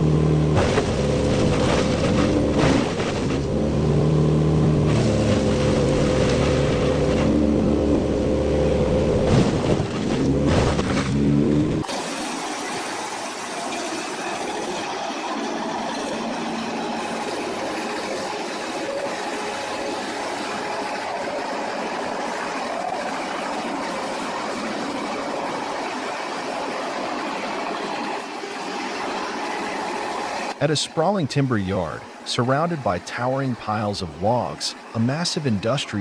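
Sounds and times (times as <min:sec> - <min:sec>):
wood chipper running: 0:00.0 - 0:31.2.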